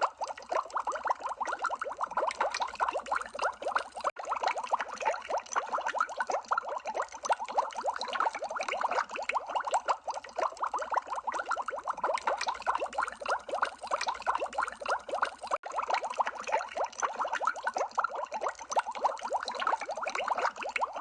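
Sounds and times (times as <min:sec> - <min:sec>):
water bubbling: 0:00.0 - 0:21.0.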